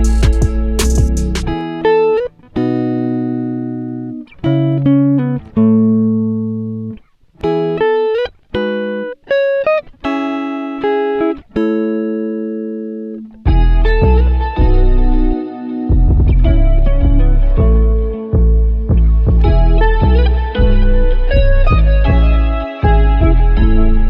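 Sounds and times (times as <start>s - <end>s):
plucked guitar melody: 0.0s - 24.0s.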